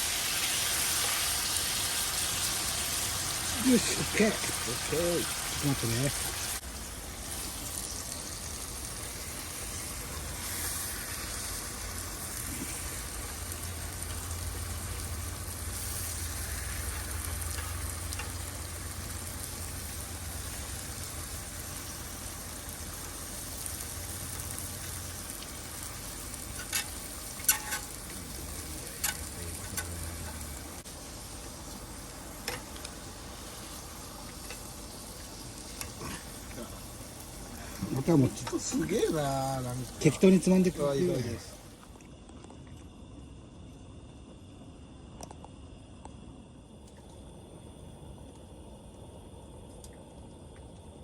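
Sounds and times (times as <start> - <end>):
food sizzling in a pan: 0.0 - 41.8.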